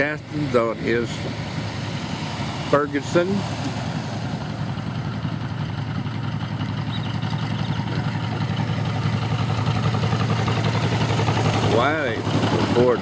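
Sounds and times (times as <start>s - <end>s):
tractor engine running at low speed: 0.0s - 13.0s.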